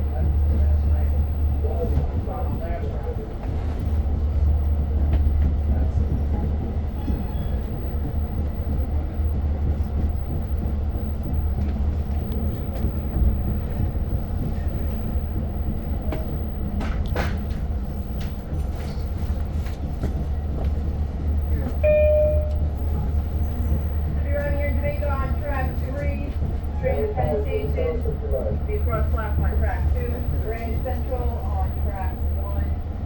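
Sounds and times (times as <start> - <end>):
train rumbling with rattles: 0.0 - 33.0.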